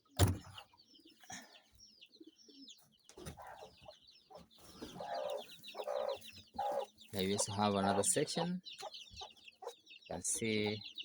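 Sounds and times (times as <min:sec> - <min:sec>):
chicks peeping: 0:00.0 - 0:11.0
hen clucking: 0:02.1 - 0:11.0.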